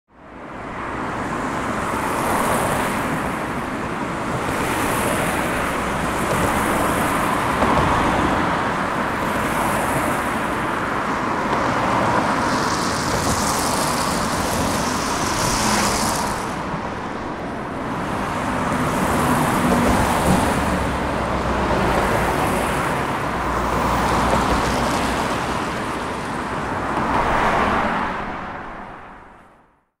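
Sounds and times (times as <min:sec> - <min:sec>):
highway traffic rushing: 0:00.1 - 0:29.9.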